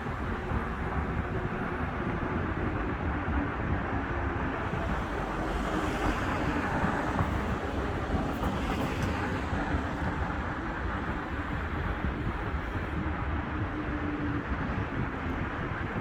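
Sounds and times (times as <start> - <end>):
traffic rumble: 0.0 - 16.0
wind buffeting microphone: 0.0 - 16.0.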